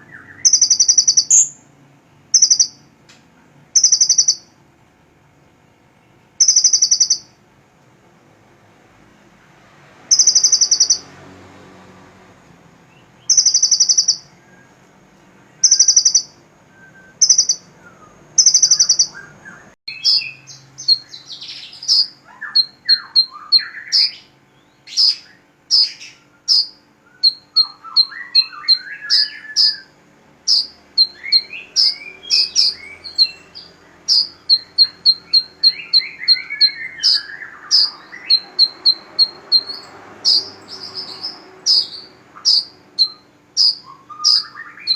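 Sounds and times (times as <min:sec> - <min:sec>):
songbirds singing trills: 0:00.0 - 0:04.6, 0:05.5 - 0:07.5, 0:09.9 - 0:12.0, 0:12.7 - 0:44.9.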